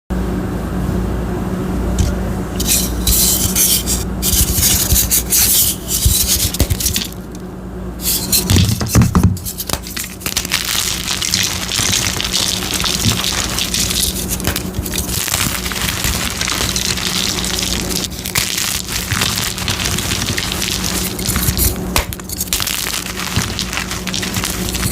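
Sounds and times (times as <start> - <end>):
steady low hum: 0.1 - 24.9
chalk being crushed: 2.6 - 7.3, 8.0 - 24.9.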